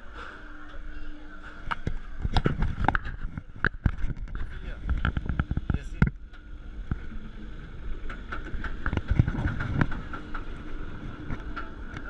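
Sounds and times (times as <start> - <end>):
roller coaster wheels rumbling: 0.0 - 12.0
steady hum: 0.0 - 12.0.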